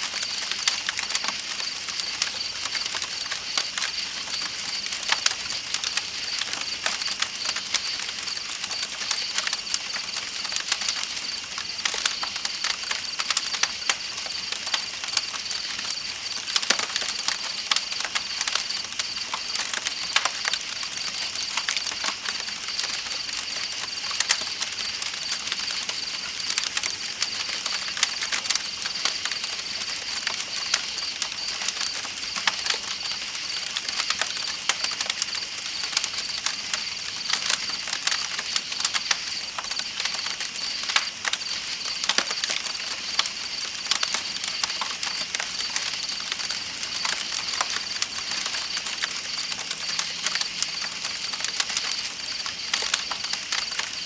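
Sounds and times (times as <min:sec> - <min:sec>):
campfire crackling and popping: 0:00.0 - 0:54.0
night insects trilling: 0:00.0 - 0:54.0.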